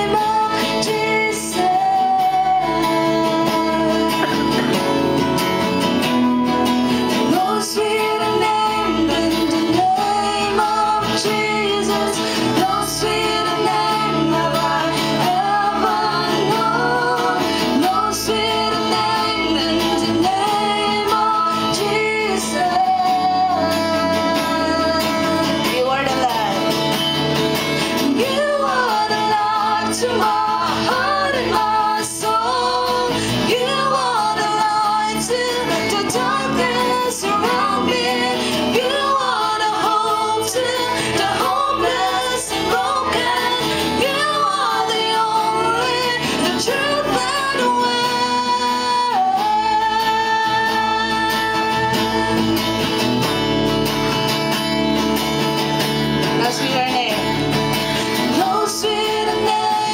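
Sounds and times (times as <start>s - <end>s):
women singing worship song: 0.0s - 54.2s, 56.4s - 59.9s
acoustic guitar strumming: 0.0s - 59.9s.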